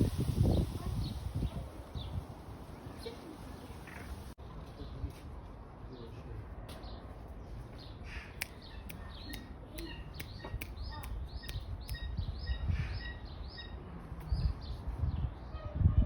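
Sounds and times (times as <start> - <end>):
bird chirping: 0.0 - 4.4, 6.8 - 15.4.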